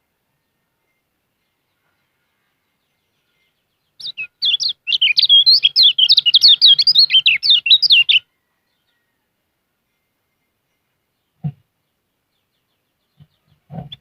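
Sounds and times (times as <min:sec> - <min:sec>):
bird twittering song: 0:00.4 - 0:09.1, 0:10.3 - 0:14.0.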